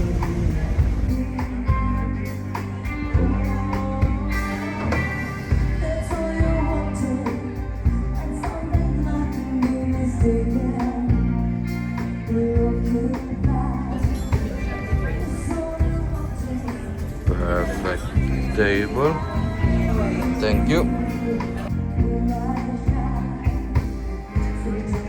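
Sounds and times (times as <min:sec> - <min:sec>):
bass and guitar: 0:00.0 - 0:25.0
music with singing and beat: 0:00.0 - 0:25.0.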